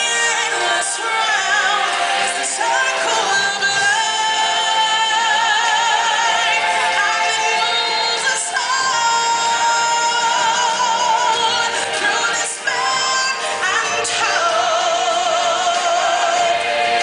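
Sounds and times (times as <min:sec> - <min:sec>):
backing music: 0:00.0 - 0:17.0
group of singers: 0:00.0 - 0:17.0.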